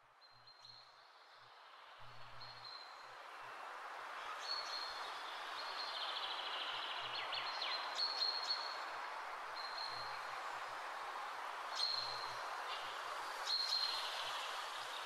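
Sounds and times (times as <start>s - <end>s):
soft steady rushing hiss: 0.0s - 15.0s.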